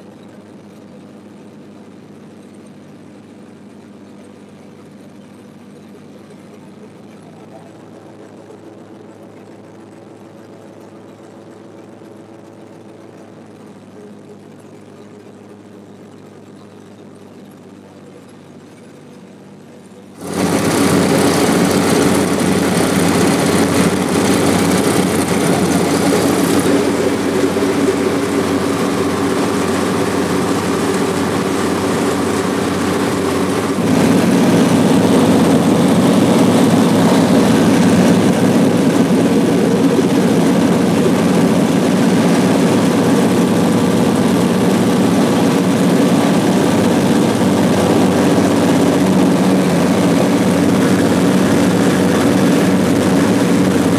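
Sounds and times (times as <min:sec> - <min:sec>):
propeller plane engines droning: 0:00.0 - 0:53.9.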